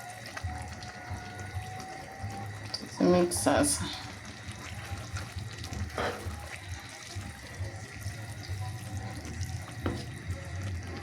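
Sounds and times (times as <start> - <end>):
spaghetti stirred in sauce: 0.0 - 11.0.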